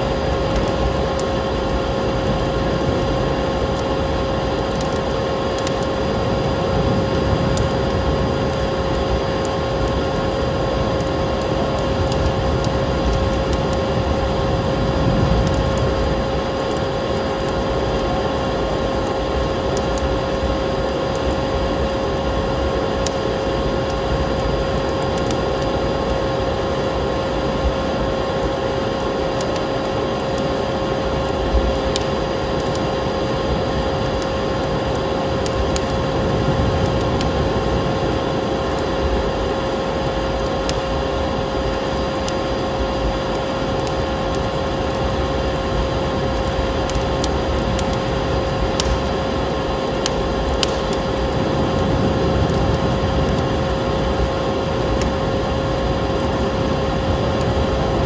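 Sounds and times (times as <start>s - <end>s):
faint steady hum: 0.0s - 58.0s
steady rushing noise: 0.0s - 58.0s
wood fire crackling: 0.0s - 58.0s.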